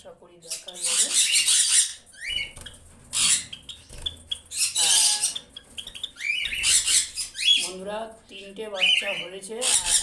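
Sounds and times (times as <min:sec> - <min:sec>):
sparrows chirping: 0:00.0 - 0:10.0.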